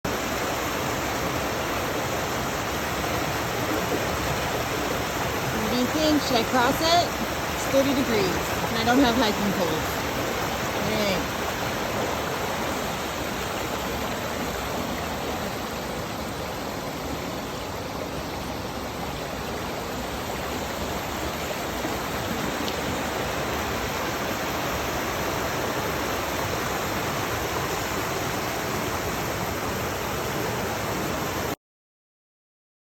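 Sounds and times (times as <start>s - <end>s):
stream rushing over rocks: 0.1s - 31.6s.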